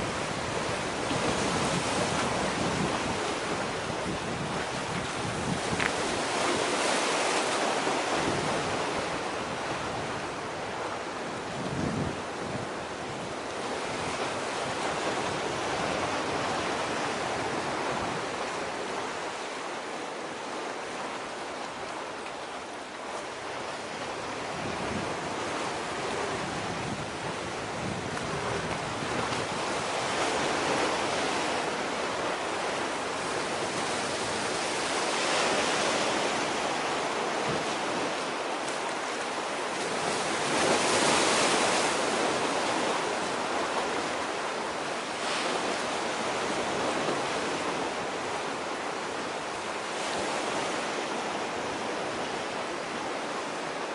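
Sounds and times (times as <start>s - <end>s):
sea waves washing on shore: 0.0s - 53.9s.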